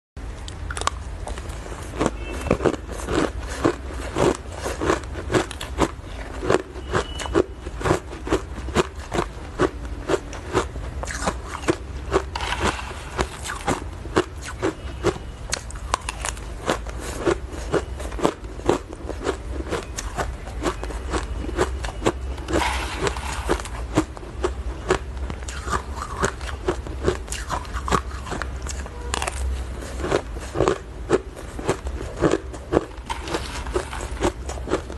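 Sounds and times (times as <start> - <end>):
ice crunching being chewed: 0.4 - 34.9.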